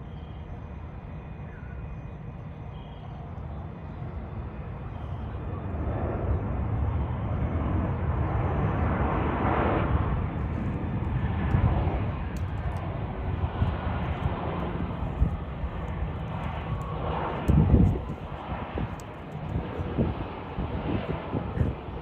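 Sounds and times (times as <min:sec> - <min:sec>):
jet engine roar: 0:00.0 - 0:22.0
wind buffeting microphone: 0:04.0 - 0:22.0.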